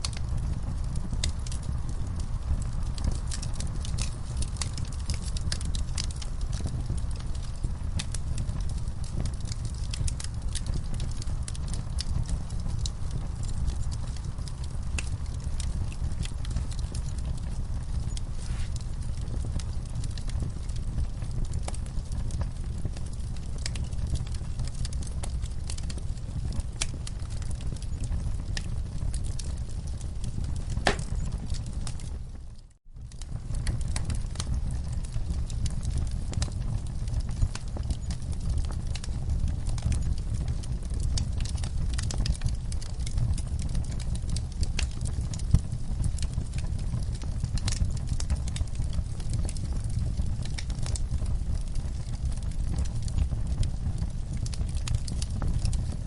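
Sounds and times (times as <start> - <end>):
campfire crackling and popping: 0.0 - 56.0
low rumble of flames: 0.0 - 56.0.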